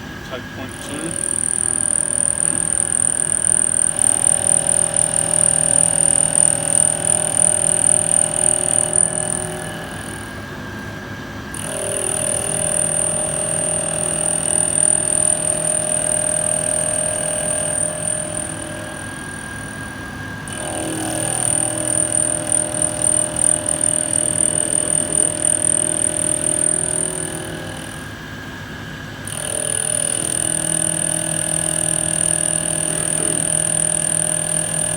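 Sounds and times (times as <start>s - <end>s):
milling machine cutting aluminium: 0.0s - 34.9s
steady high whine: 0.0s - 34.9s.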